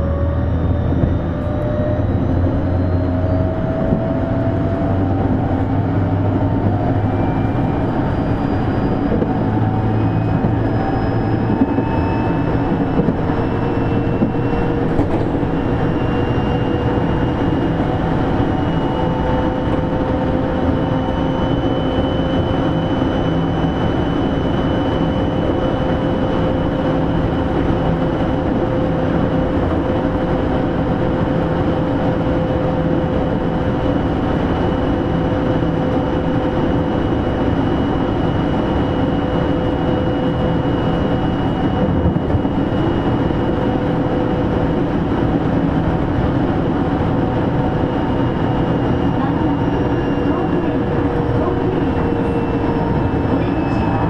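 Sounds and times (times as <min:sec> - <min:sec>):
train motor whine: 0:00.0 - 0:54.0
train wheels rumbling on rail: 0:00.0 - 0:54.0.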